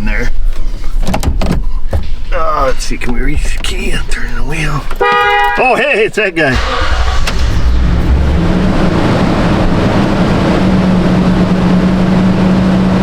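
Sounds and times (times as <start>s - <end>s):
car engine starting and idling: 2.1s - 13.0s.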